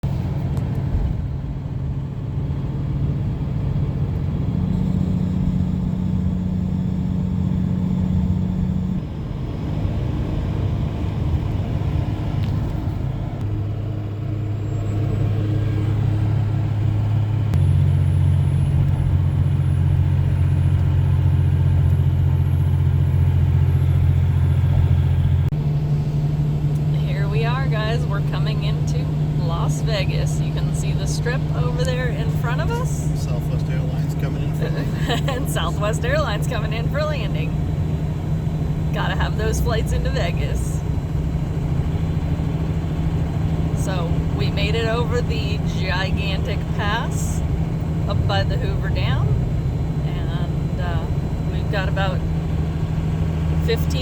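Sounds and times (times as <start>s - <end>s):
engine drone: 0.0s - 54.0s
road noise: 0.0s - 54.0s.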